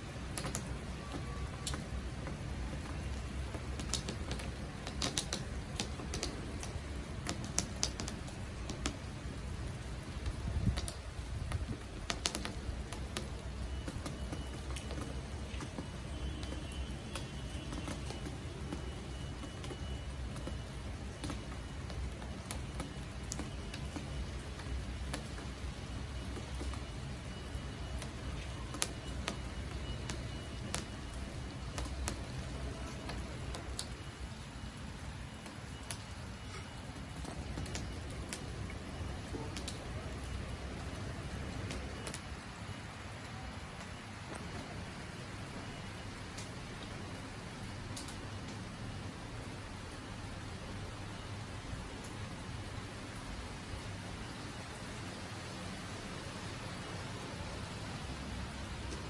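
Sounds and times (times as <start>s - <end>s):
raindrops dripping: 0.0s - 59.0s.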